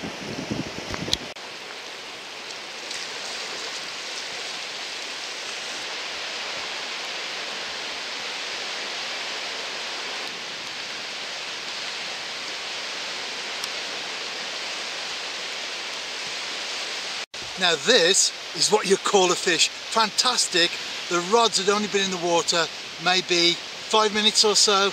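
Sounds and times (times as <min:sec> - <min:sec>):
surf waves breaking on beach: 0:00.0 - 0:24.9.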